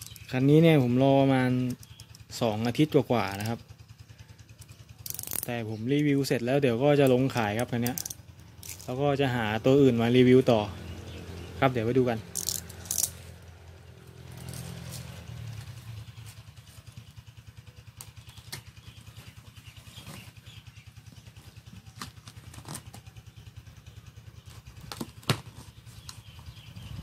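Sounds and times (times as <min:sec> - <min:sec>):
low throbbing hum: 0:01.4 - 0:27.0.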